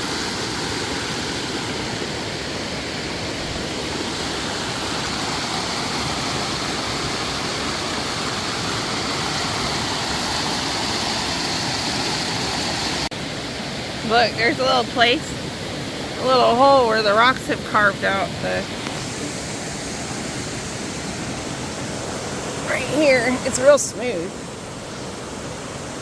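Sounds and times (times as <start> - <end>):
creek rushing over rock: 0.0 - 26.0.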